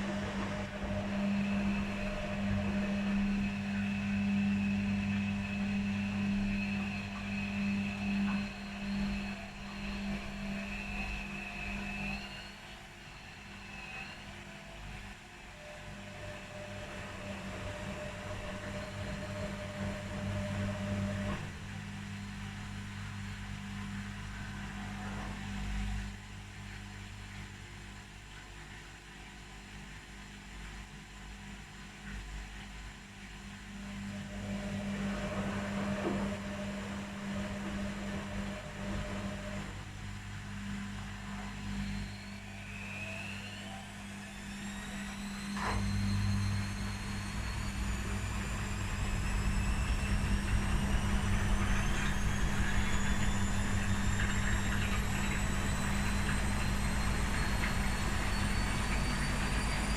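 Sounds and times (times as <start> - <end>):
motor whine: 0.0 - 27.2, 33.0 - 59.9
washing machine hum: 0.0 - 59.9.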